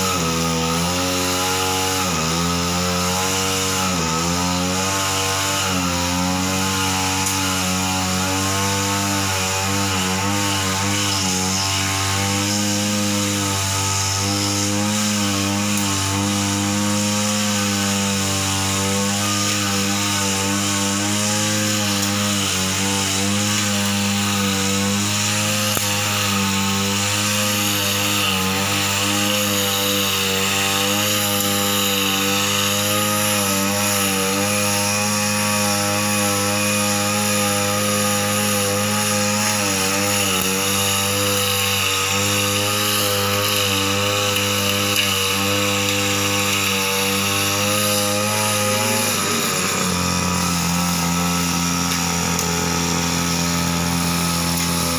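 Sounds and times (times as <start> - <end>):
brush cutter engine running: 0.0 - 54.9.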